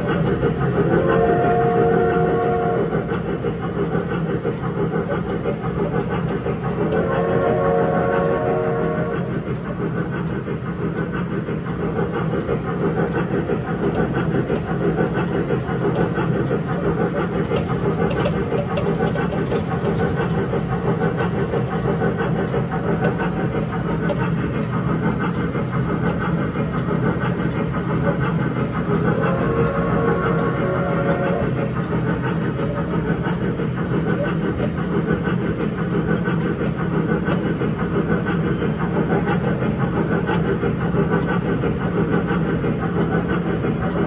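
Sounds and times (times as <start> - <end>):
electric train rumbling: 0.0 - 44.0.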